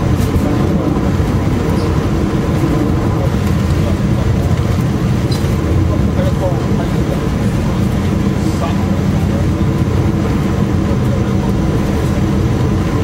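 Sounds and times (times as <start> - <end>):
ferry engine and hull drone: 0.0 - 13.0.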